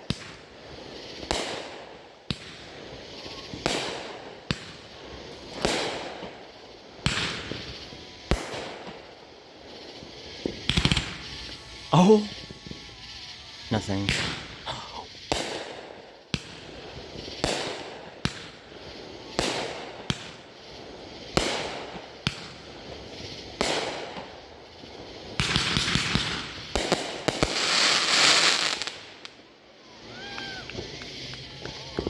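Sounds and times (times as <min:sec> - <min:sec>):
fireworks bangs: 0:00.0 - 0:32.0
fireworks crackling: 0:00.0 - 0:32.0.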